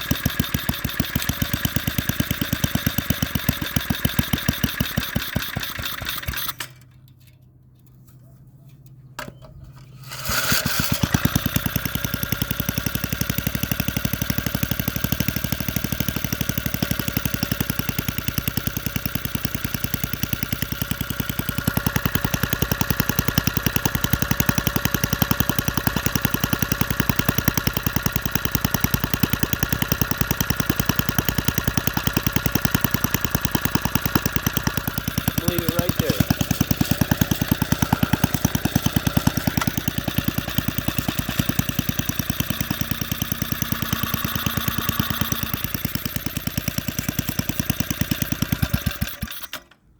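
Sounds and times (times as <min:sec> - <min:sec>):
single-cylinder engine idling: 0:00.0 - 0:06.8, 0:10.6 - 0:49.5.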